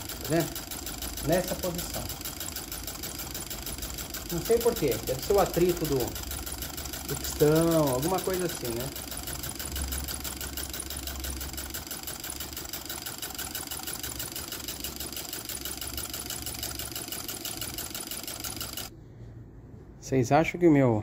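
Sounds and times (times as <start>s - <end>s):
small engine fast clatter: 0.0s - 18.9s.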